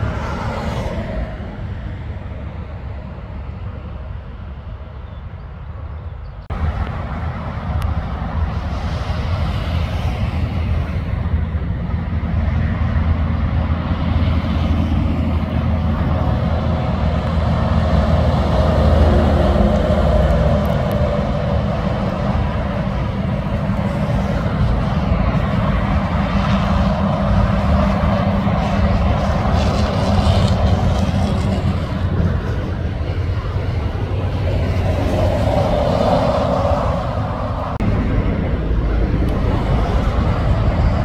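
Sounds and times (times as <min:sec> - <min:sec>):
heavy trucks passing on highway: 0:00.0 - 0:41.0.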